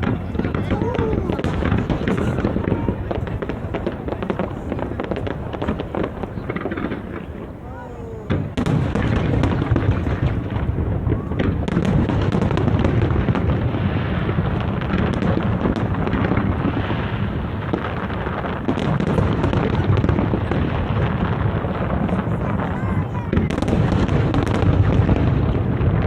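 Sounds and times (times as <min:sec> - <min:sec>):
fireworks bursts and crackles: 0:00.0 - 0:26.0.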